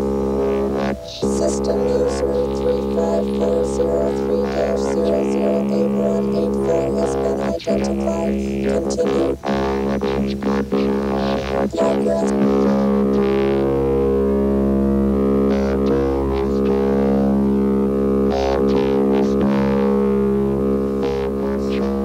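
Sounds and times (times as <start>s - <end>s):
low synthesizer drone: 0.0s - 22.0s.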